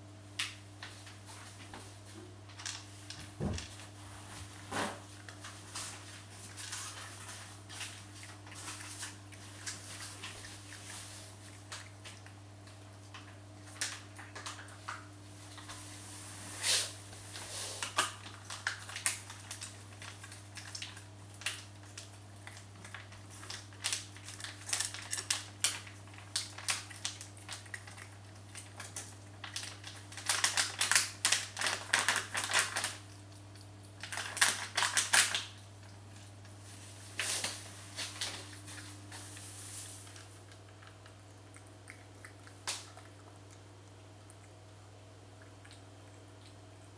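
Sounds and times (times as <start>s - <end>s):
cat crunching food: 5.0s - 15.8s, 17.3s - 46.9s.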